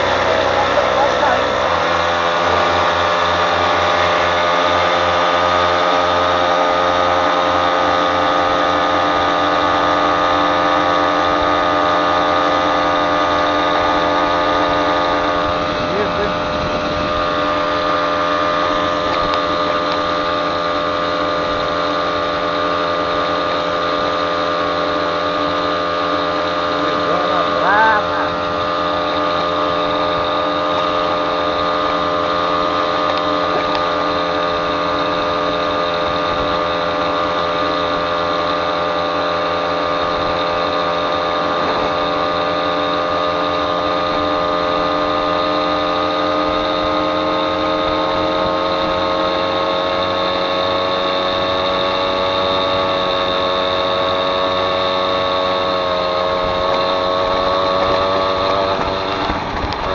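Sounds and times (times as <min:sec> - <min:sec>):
moped engine running: 0:00.0 - 0:59.9.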